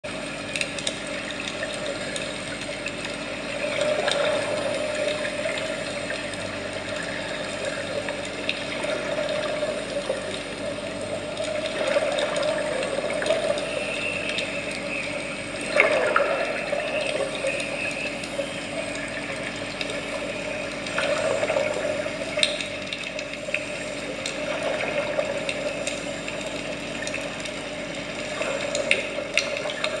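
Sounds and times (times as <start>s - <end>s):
underwater breathing bubbles: 3.5s - 30.0s.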